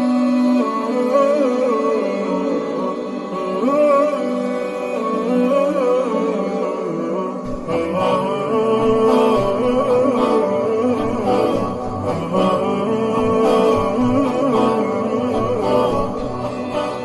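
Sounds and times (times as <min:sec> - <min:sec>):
background music with ornamented melody: 0:00.0 - 0:17.0.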